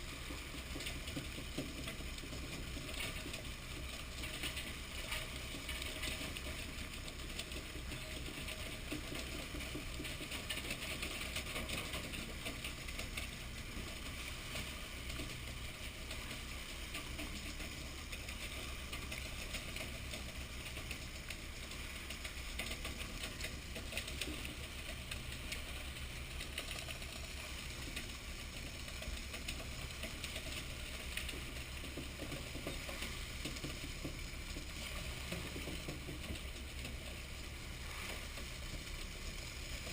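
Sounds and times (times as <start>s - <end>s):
boat engine humming and ticking: 0.0s - 39.9s.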